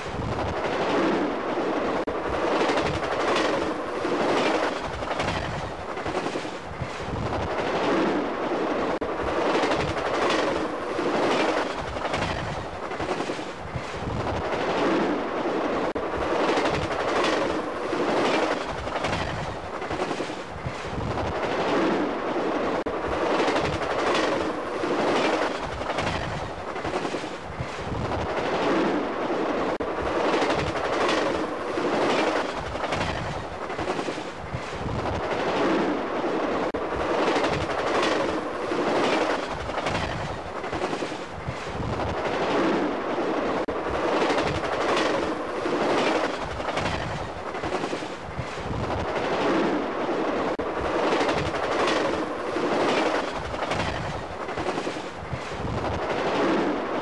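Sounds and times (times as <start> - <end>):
train wheels clattering over rail joints: 2.0 - 8.1, 9.0 - 15.2, 15.9 - 22.0, 22.8 - 29.0, 29.8 - 35.9, 36.7 - 42.9, 43.6 - 49.8, 50.5 - 56.8.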